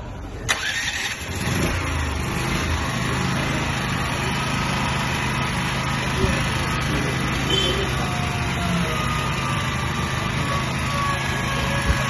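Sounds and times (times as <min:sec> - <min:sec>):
generator engine running: 0:00.4 - 0:12.0.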